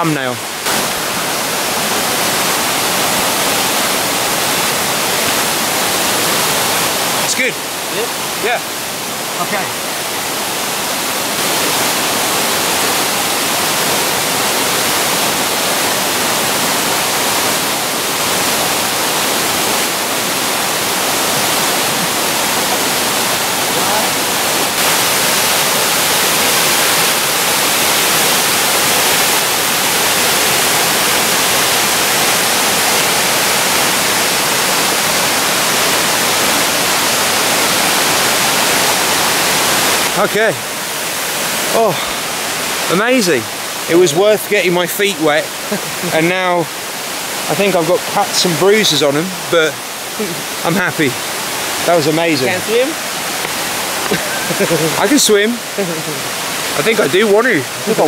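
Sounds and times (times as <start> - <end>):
water cascading down waterfall: 0.0 - 58.0.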